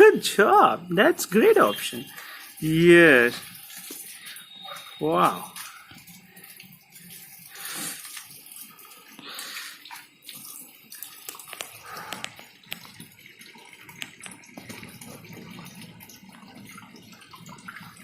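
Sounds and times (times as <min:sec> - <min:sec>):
water splashing and pouring: 0:00.0 - 0:18.0.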